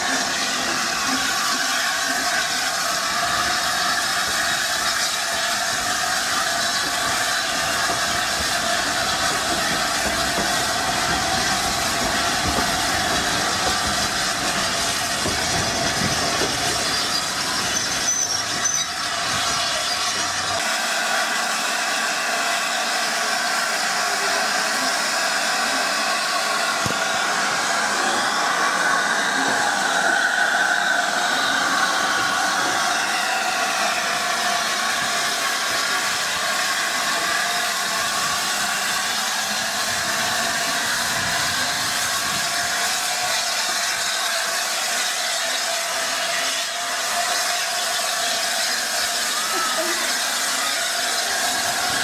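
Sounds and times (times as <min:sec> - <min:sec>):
steam hissing from locomotive: 0:00.0 - 0:52.0.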